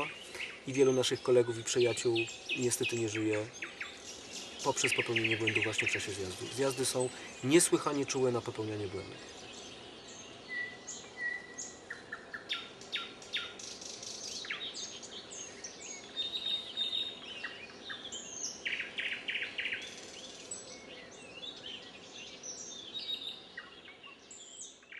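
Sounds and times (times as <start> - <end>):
faint outdoor background hum: 0.0 - 24.9
songbirds singing: 0.0 - 24.9.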